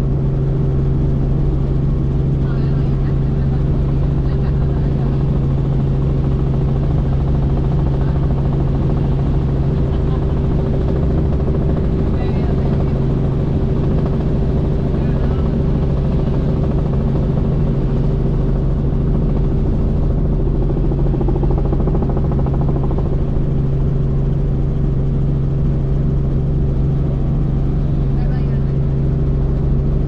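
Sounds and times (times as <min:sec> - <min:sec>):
helicopter drone: 0:00.0 - 0:30.0.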